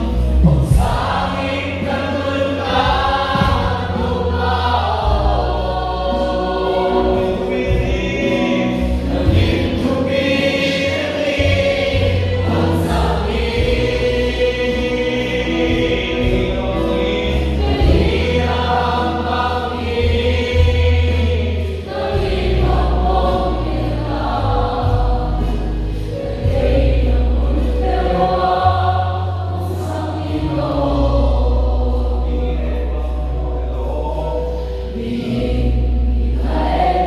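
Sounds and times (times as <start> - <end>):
choir singing: 0.0 - 37.0
sustained low bass notes: 0.0 - 37.0.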